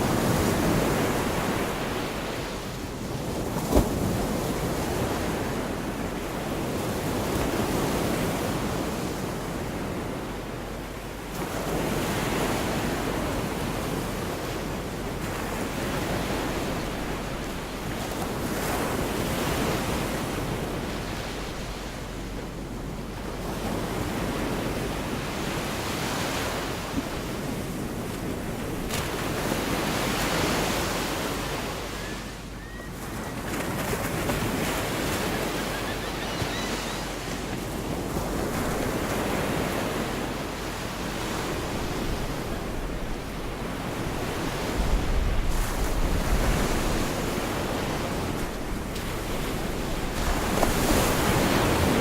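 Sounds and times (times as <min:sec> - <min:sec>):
waves breaking on beach: 0:00.0 - 0:52.0.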